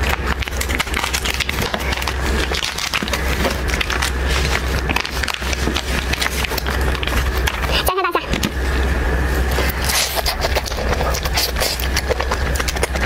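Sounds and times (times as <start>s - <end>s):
shells crunching and cracking: 0.0s - 8.6s, 9.8s - 13.0s
steady low hum: 0.0s - 13.0s.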